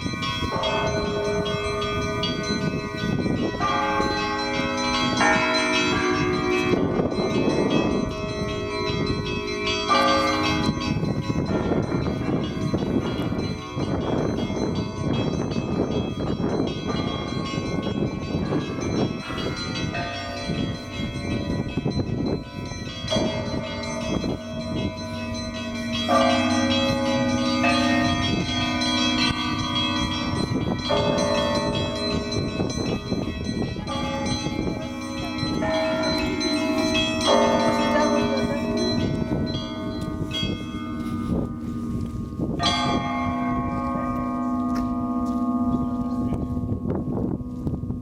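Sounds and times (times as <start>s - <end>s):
small bells struck quickly: 0.0s - 40.9s
large bells ringing: 0.0s - 48.0s.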